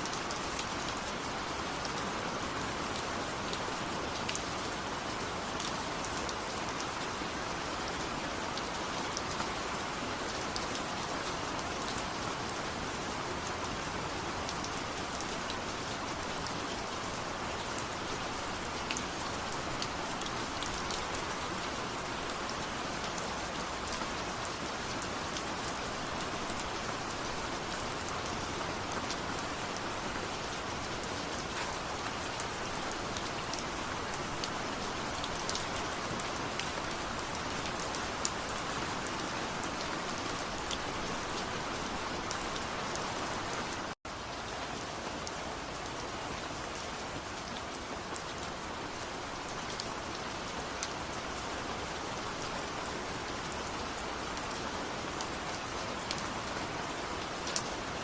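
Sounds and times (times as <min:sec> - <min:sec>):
rain patter on hard surface: 0:00.0 - 0:58.0.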